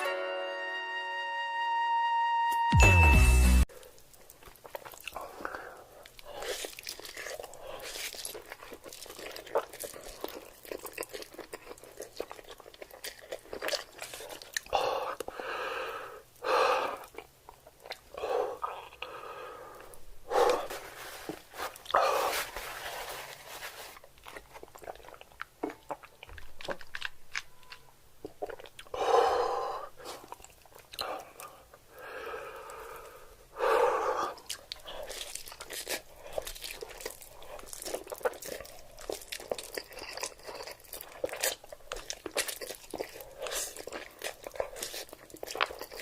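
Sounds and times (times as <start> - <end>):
person chewing crunchy food: 3.7 - 15.4, 16.3 - 33.3, 34.0 - 46.0.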